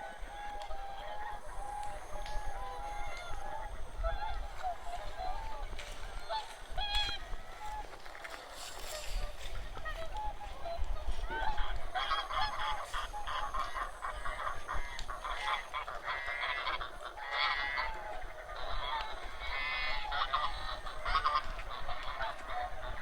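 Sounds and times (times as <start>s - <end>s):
waterfowl flock honking: 0.0s - 23.0s.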